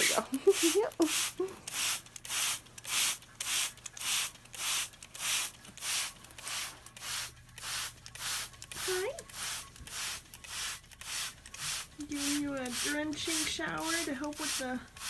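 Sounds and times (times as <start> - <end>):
spray bottle squirts hissing: 0.0 - 15.0.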